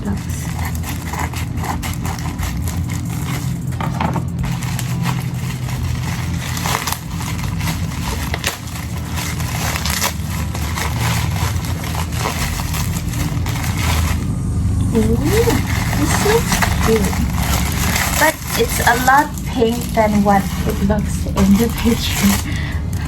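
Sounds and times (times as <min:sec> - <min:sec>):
plastic packaging crinkling: 0:00.0 - 0:23.0
steady low hum: 0:00.0 - 0:23.0.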